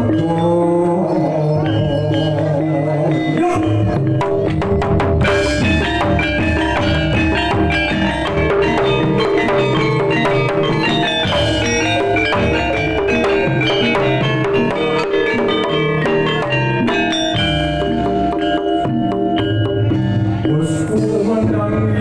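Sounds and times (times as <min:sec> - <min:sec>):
kendang drums: 0:00.0 - 0:22.0
metallophones ringing: 0:00.0 - 0:22.0.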